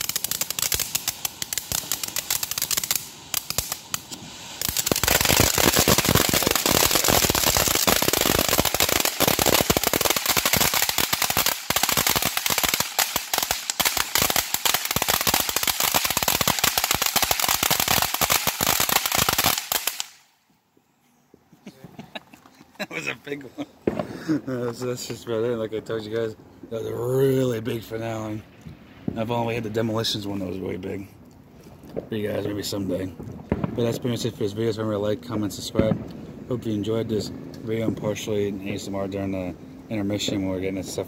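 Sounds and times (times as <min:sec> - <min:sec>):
fireworks fountains crackling: 0:00.0 - 0:20.4, 0:21.9 - 0:41.0.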